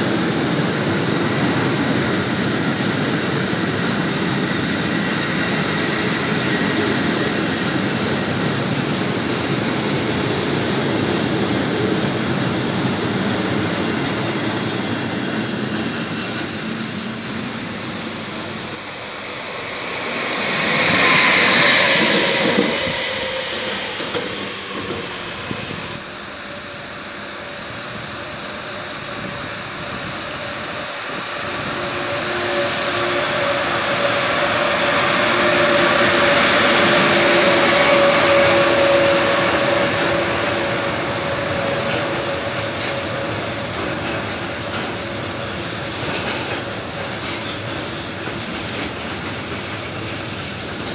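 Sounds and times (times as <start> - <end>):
electric locomotive rushing past: 0.0 - 50.9
freight train running past: 0.0 - 50.9.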